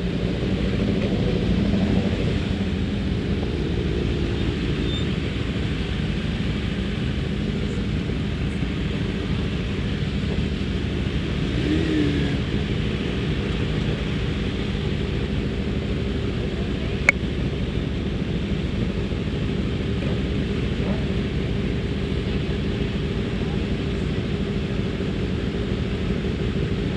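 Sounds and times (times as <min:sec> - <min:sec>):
motorcycle engine rumbling: 0:00.0 - 0:26.9.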